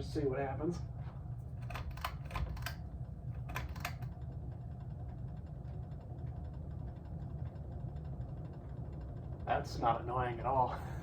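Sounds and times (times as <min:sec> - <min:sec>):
ceiling fan motor hum: 0:00.0 - 0:11.0.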